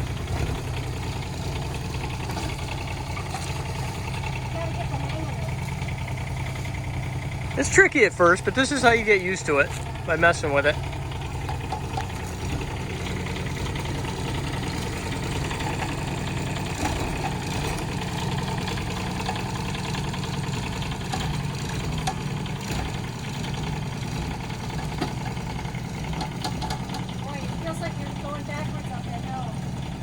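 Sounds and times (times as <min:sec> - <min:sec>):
mini excavator diesel engine: 0:00.0 - 0:30.0.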